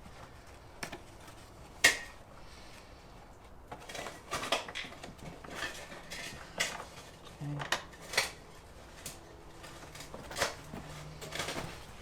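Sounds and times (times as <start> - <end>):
liner rustling and scraping: 0.0 - 12.0.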